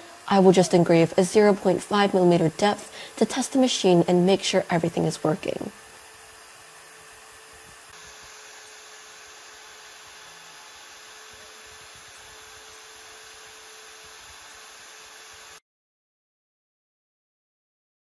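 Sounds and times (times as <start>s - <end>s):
router spindle whirring: 0.0s - 15.6s.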